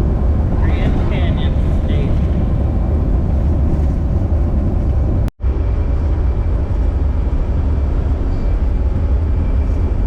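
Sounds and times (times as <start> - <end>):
bus engine rumble: 0.0 - 10.0
road noise: 0.0 - 10.0.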